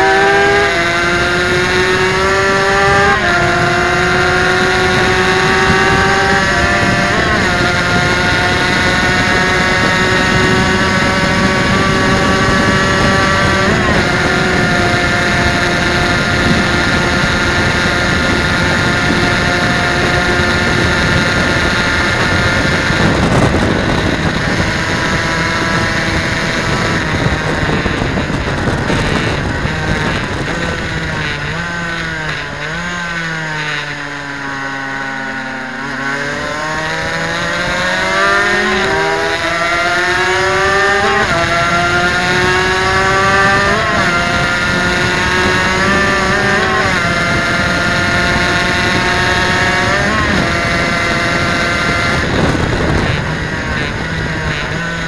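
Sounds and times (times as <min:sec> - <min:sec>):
racing engine at full throttle: 0:00.0 - 0:55.0
wind rush on microphone: 0:00.0 - 0:55.0.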